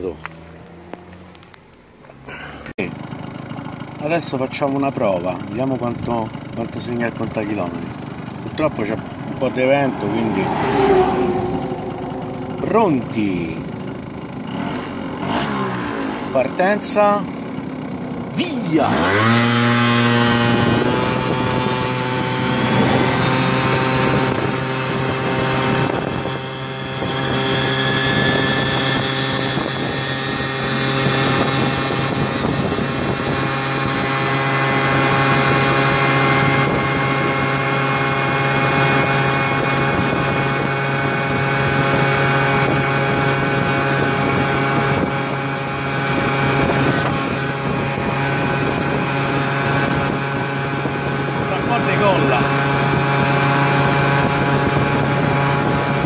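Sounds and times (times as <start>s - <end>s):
scooter engine at full throttle: 0.0s - 56.0s.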